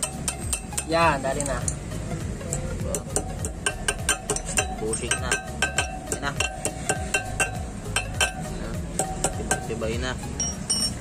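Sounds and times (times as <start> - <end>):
hand tools tapping on metal: 0.0 - 11.0.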